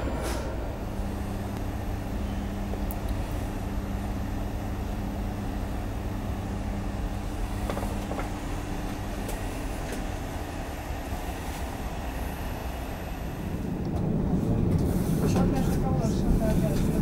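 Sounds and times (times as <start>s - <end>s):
humming tone: 0.0s - 15.1s
train carriage low rumble: 0.0s - 17.0s.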